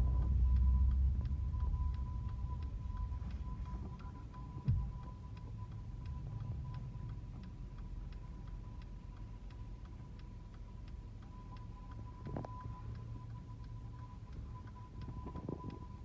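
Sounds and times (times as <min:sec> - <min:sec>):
car engine and road rumble: 0:00.0 - 0:16.0
turn signal ticking: 0:00.0 - 0:16.0.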